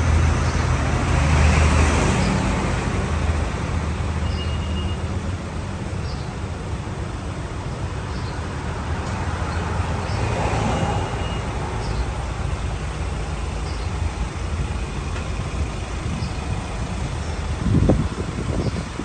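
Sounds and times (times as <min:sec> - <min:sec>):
vehicle road noise rumble: 0:00.0 - 0:19.0.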